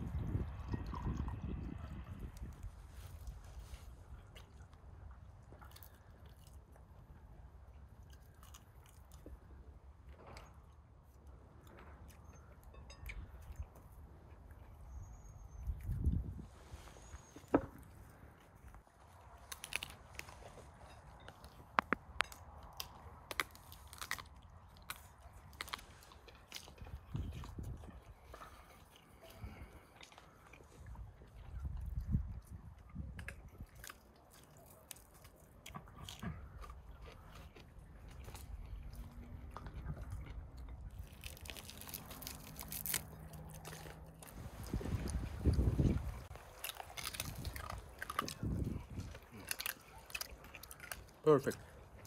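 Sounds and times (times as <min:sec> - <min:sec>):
person biting and chewing food: 0:00.0 - 0:09.7, 0:17.1 - 0:52.0.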